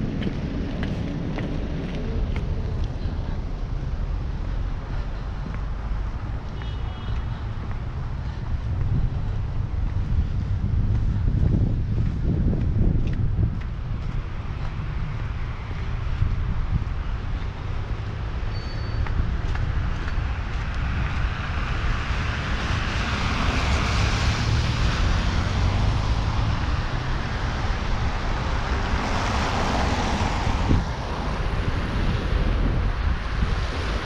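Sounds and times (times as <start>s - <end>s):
steady rushing noise: 0.0s - 6.6s, 7.4s - 34.0s
wind buffeting microphone: 0.0s - 6.6s, 7.4s - 34.0s.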